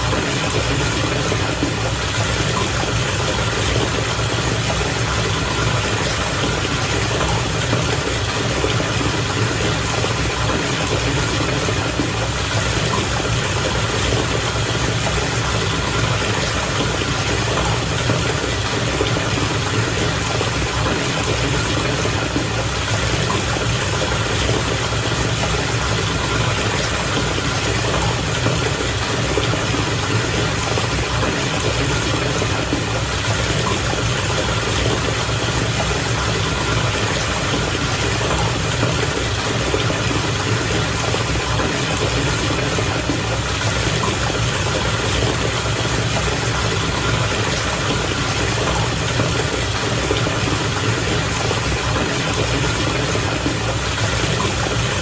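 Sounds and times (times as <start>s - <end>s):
bathwater bubbling and churning: 0.0s - 55.0s.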